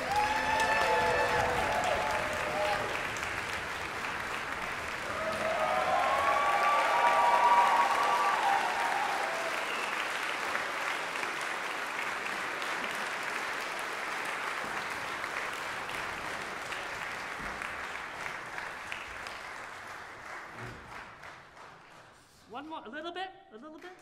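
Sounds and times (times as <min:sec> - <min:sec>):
audience applause: 0:00.0 - 0:22.2.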